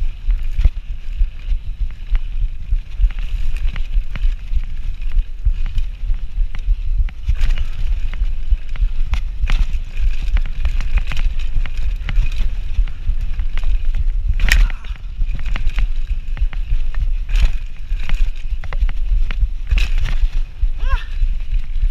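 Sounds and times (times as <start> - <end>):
bike rattling and clattering: 0.0 - 21.9
wind buffeting microphone: 0.0 - 21.9.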